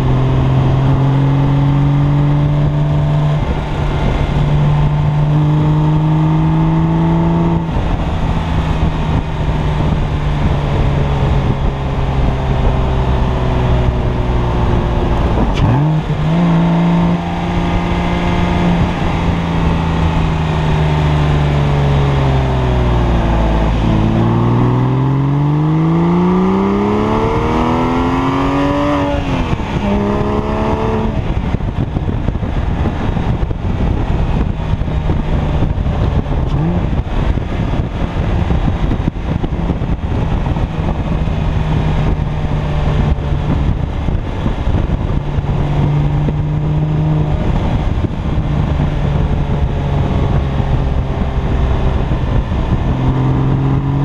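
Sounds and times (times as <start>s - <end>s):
car exhaust droning: 0.0s - 54.0s.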